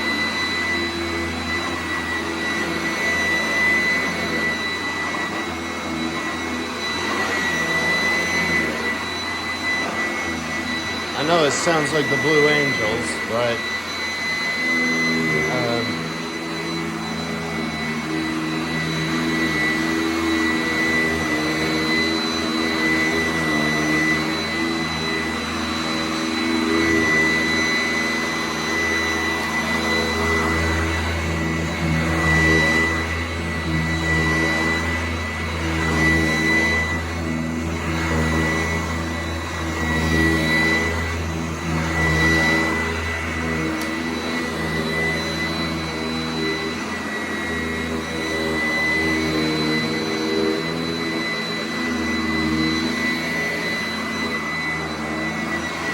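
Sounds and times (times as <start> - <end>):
upright vacuum cleaner running: 0.0 - 55.9.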